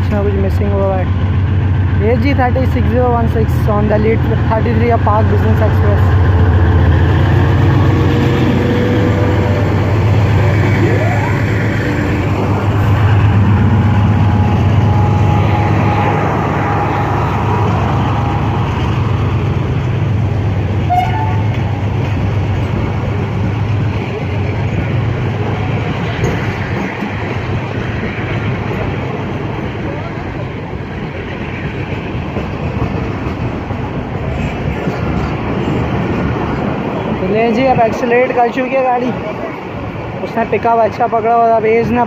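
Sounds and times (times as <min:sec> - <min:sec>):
diesel locomotive engine drone: 0:00.0 - 0:42.0
train coaches rolling on rails: 0:00.0 - 0:42.0.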